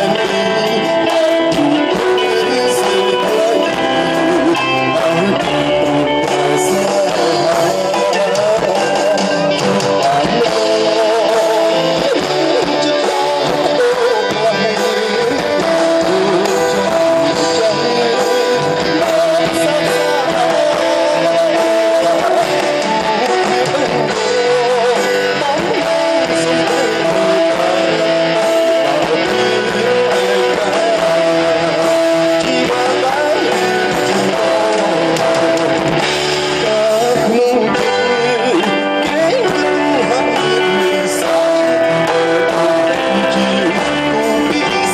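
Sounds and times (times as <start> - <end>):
pop band music: 0.0 - 44.9
sustained guitar melody: 0.0 - 44.9.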